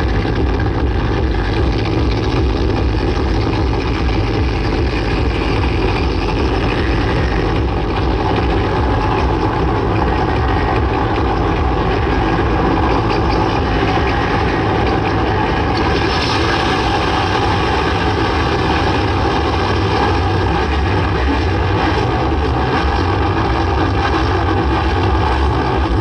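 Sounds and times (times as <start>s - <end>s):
electronic dance music: 0.0s - 26.0s.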